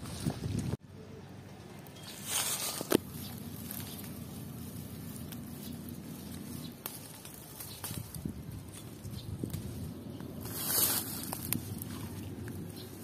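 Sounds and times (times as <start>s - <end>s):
rustling through leafy vines: 1.7s - 13.0s.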